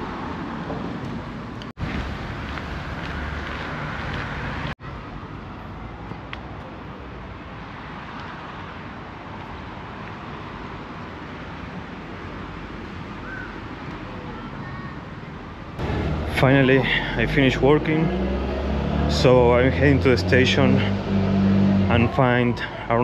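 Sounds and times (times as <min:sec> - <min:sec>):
distant road traffic hum: 0:00.0 - 0:23.0.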